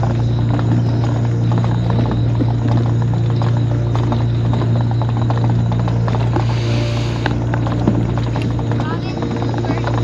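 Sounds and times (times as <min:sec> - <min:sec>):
scooter drive humming: 0:00.0 - 0:10.0
scooter rattling and clicking: 0:00.0 - 0:10.0.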